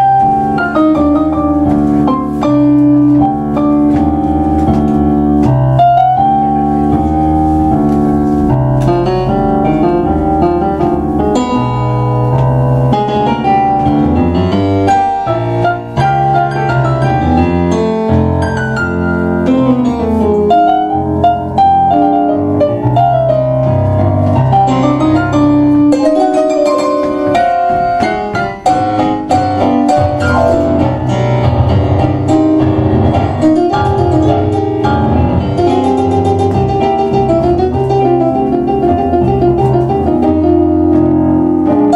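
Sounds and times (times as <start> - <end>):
piano duo playing tango: 0.0 - 41.9.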